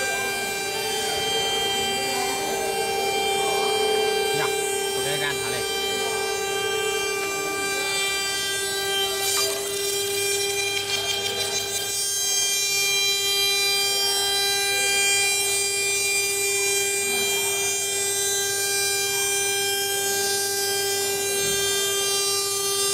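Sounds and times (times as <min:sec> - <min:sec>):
router spindle whining: 0:00.0 - 0:22.9.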